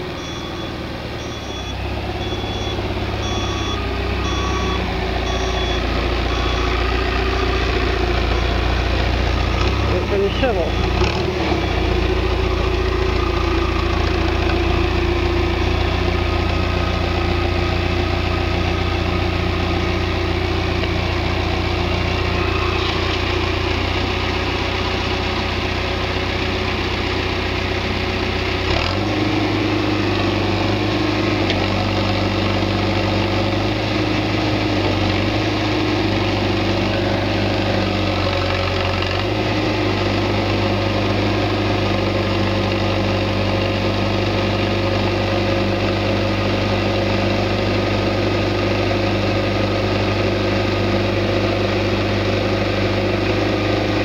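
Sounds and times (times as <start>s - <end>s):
backhoe engine running: 0.0s - 54.0s.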